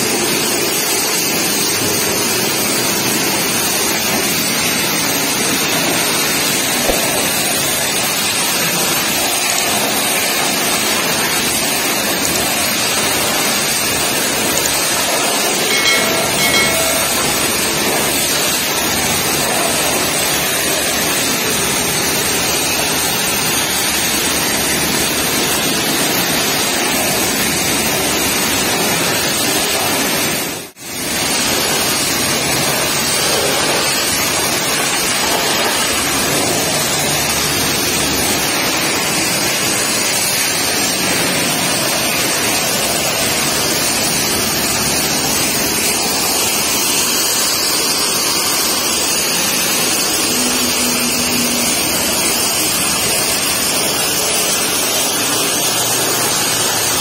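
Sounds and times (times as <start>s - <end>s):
pressure washer jet hissing on tarpaulin: 0.0s - 57.0s.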